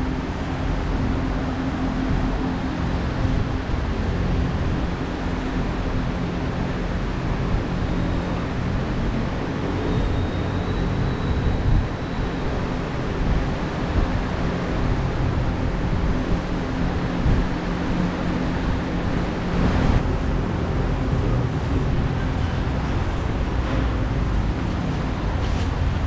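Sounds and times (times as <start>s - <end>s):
fan rushing air: 0.0s - 26.0s
low fan hum: 0.0s - 26.0s.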